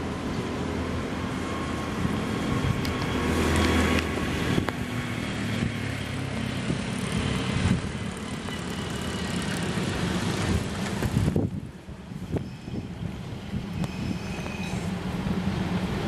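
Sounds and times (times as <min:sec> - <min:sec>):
diesel railcar engine humming: 0:00.0 - 0:16.0
wheels on rails: 0:01.0 - 0:16.0.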